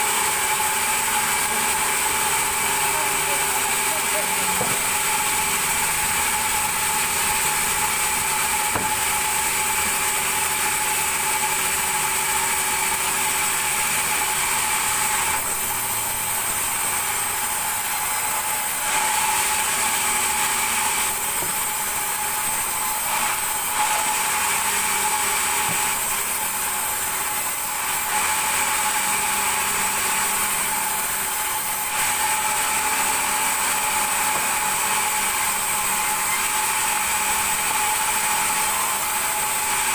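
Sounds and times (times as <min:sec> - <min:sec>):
band saw cutting timber: 0:00.0 - 0:39.9.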